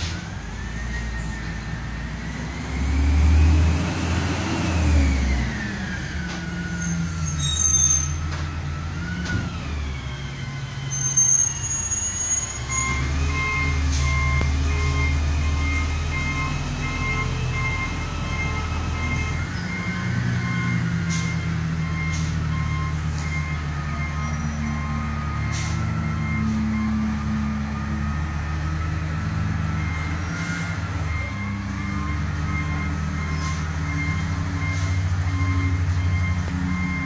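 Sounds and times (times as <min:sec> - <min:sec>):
engine whine: 0:00.0 - 0:07.3, 0:08.1 - 0:37.0
truck engine rumbling: 0:00.0 - 0:37.0
reversing alarm beeping: 0:05.1 - 0:37.0.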